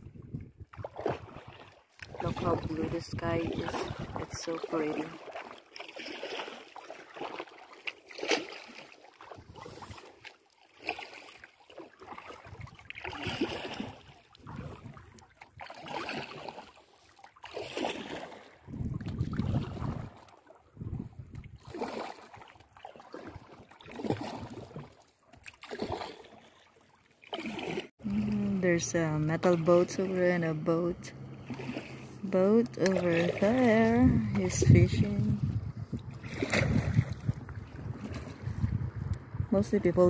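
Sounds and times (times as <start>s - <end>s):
kayak paddle splashing water: 0.0s - 40.0s.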